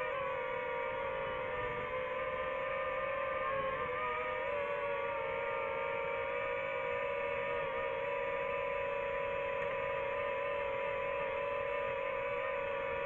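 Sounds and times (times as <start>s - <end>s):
drone propellers whining hum: 0.0s - 13.0s.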